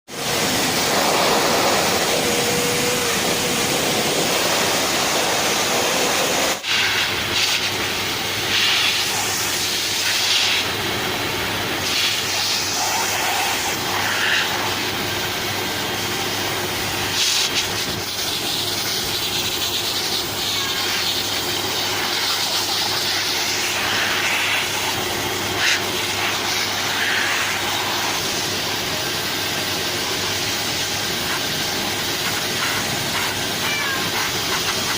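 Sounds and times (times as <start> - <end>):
hair dryer blowing: 0.0 - 34.9.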